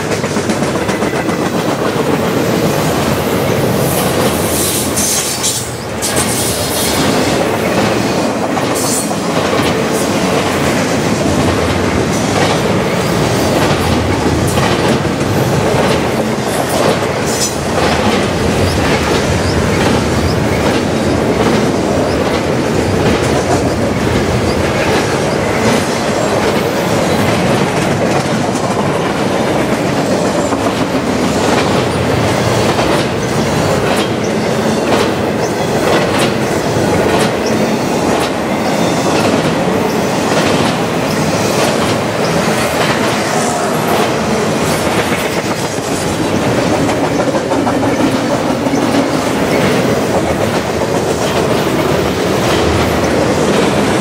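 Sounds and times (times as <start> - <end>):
steel wheels rushing on rail: 0.0 - 54.0.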